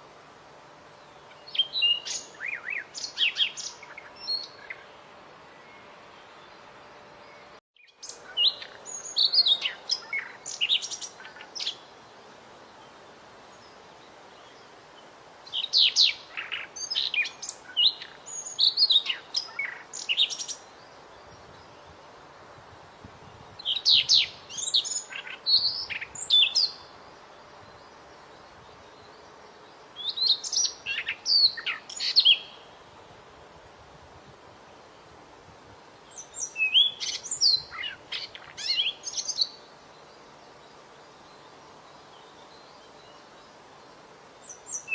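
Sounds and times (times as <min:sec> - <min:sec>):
faint steady hiss: 0:00.0 - 0:44.9
songbird chirping and trilling: 0:00.9 - 0:33.0, 0:35.9 - 0:44.9.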